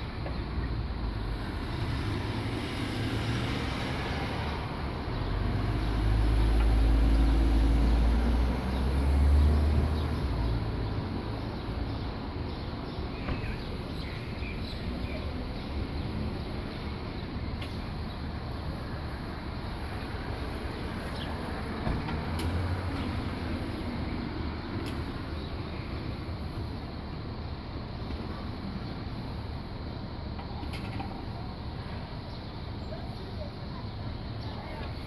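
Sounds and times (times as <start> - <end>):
distant traffic rumble: 0.0 - 35.0.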